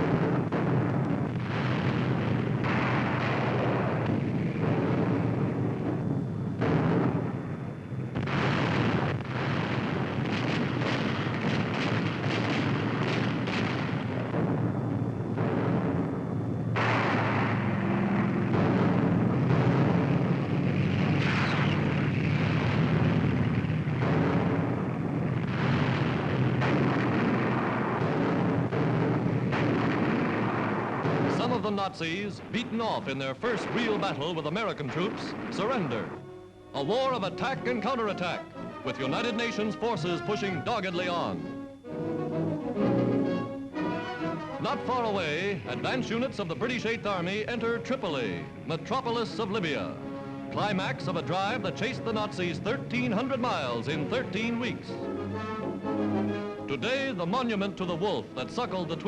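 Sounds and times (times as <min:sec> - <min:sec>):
explosions: 0:00.0 - 0:59.0
heavy gunfire: 0:00.0 - 0:59.0
tank guns firing: 0:00.0 - 0:59.0.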